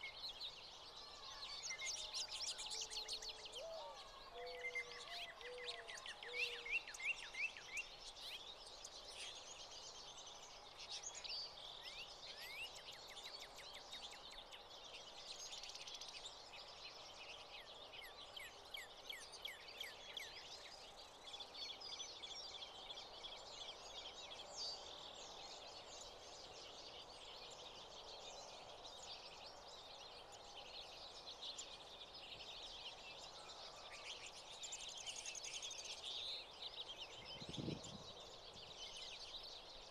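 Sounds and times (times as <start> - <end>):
faint background noise: 0.0 - 39.9.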